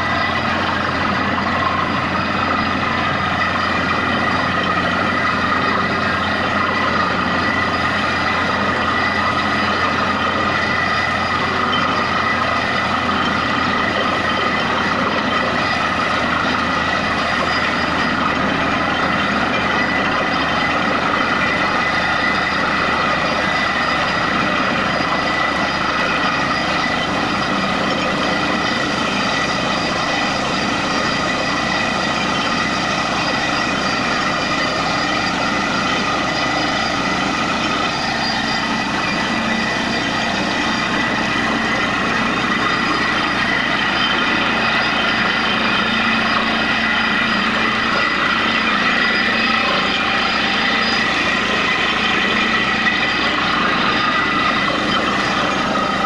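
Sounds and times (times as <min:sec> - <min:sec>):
drilling rig engine drone: 0:00.0 - 0:56.0
water and slurry rushing: 0:00.0 - 0:56.0.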